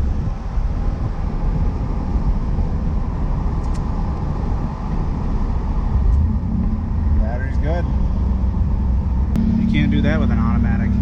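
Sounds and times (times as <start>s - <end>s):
car engine rumbling: 0.0s - 11.0s
road noise: 0.0s - 11.0s.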